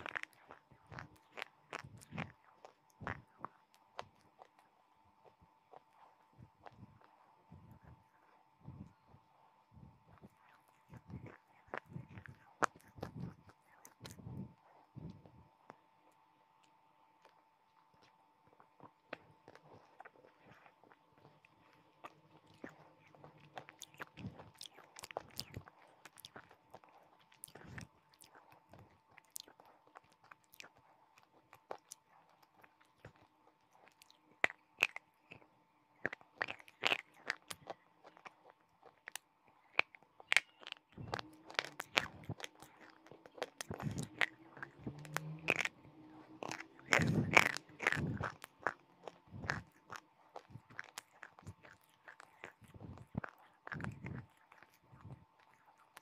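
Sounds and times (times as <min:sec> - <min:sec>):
crunchy chewing of chalk: 0:00.0 - 0:56.0.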